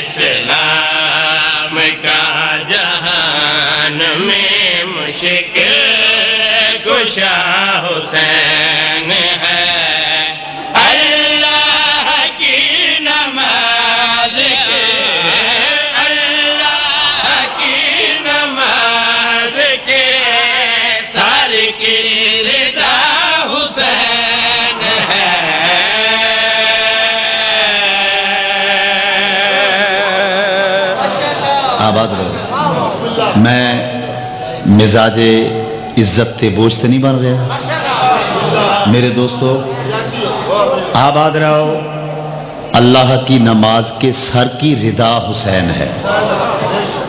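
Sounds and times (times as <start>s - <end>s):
man chanting through loudspeakers: 0.0s - 46.1s.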